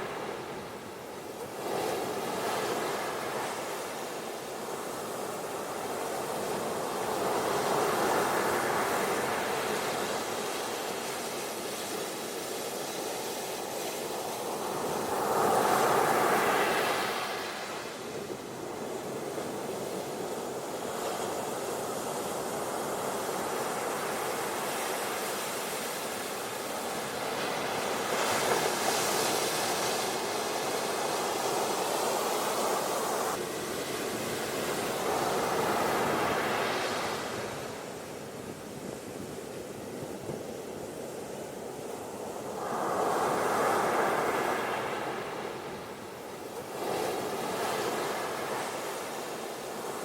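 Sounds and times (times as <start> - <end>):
ocean waves on beach: 0.0 - 50.0.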